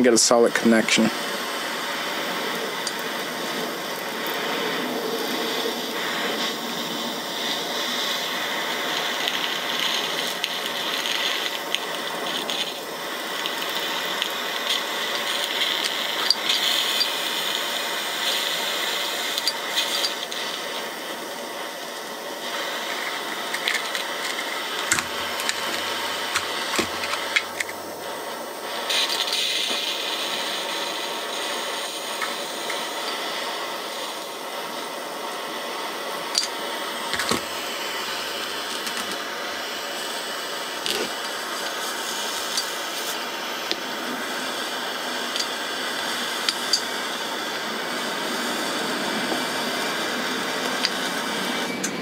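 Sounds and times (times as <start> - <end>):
torch flame hissing: 0.0 - 52.0.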